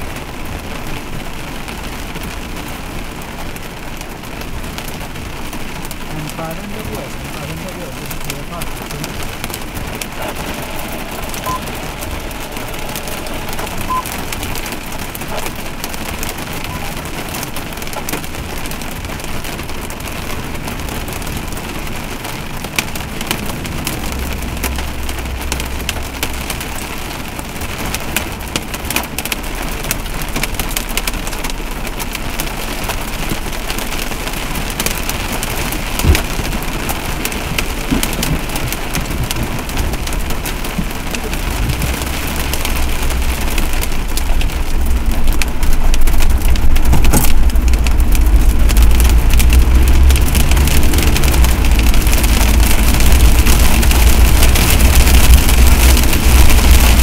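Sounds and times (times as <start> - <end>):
heavy rain falling: 0.0 - 57.0
low rumble: 0.0 - 57.0.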